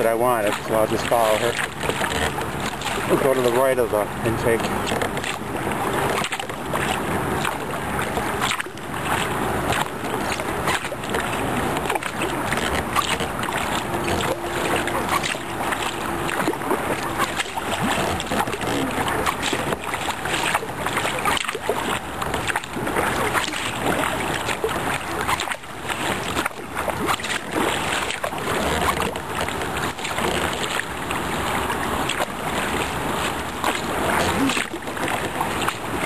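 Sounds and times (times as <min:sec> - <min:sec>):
paddle strokes splashing: 0:00.0 - 0:36.0
river current rushing: 0:00.0 - 0:36.0.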